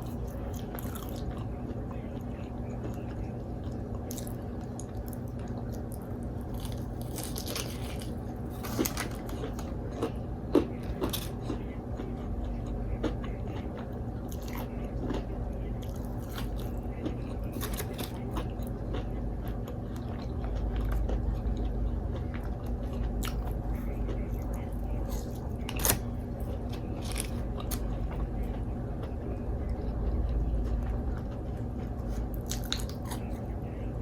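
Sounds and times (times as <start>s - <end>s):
person chewing crunchy food: 0.0s - 33.7s
steady low hum: 0.0s - 34.0s.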